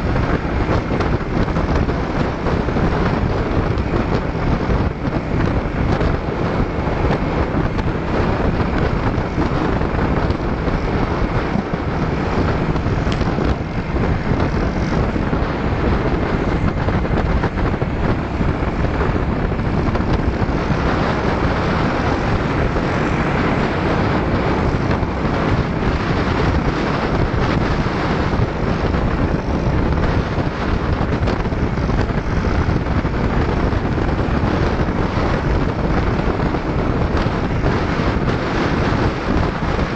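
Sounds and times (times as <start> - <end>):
motor scooters running: 0.0 - 39.9
wind rush on microphone: 0.0 - 39.9.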